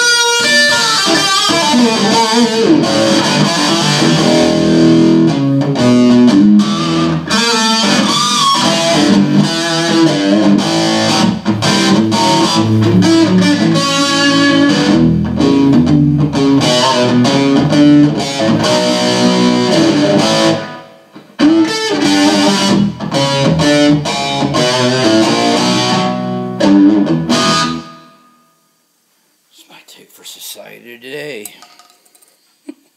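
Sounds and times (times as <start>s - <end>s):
electric guitar playing: 0.0s - 28.6s.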